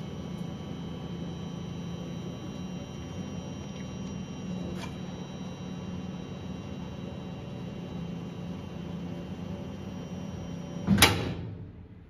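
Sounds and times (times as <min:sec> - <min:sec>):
laser cutter humming and whining: 0:00.0 - 0:11.2.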